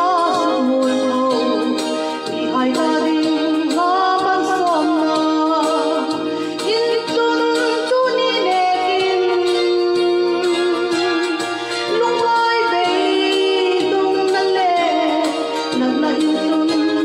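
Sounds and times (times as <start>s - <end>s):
instrumental backing music: 0.0s - 17.0s
woman singing slow song: 0.0s - 17.0s.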